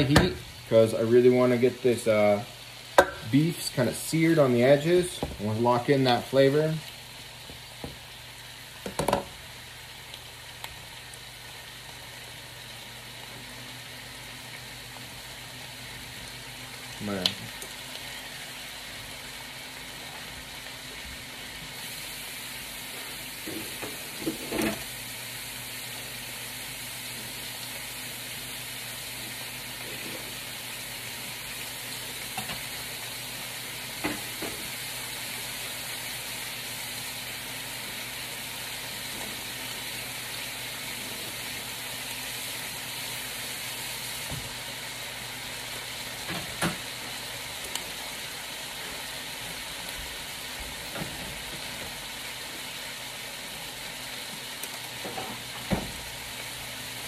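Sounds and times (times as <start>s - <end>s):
meat searing in a pan: 0.0s - 57.0s.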